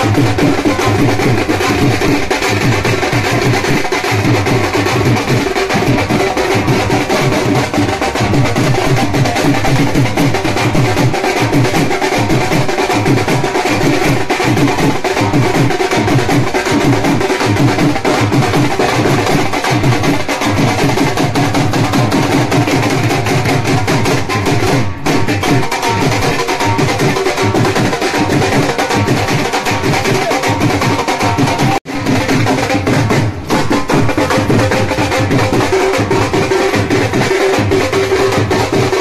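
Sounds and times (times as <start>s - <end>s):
dhol drums playing: 0.0s - 39.0s.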